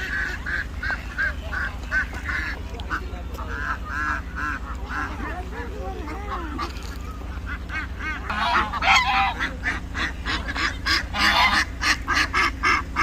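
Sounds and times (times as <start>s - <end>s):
waterfowl honking: 0.0s - 13.0s.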